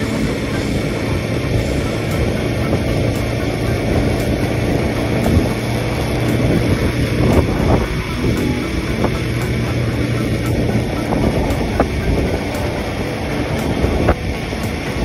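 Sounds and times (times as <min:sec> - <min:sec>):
motorcycle engine running: 0:00.0 - 0:15.0
road noise: 0:00.0 - 0:15.0
wind: 0:00.0 - 0:15.0.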